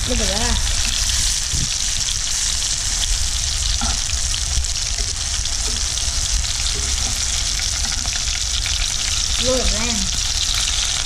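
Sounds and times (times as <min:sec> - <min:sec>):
frying sizzle with crackling pops: 0:00.0 - 0:11.0.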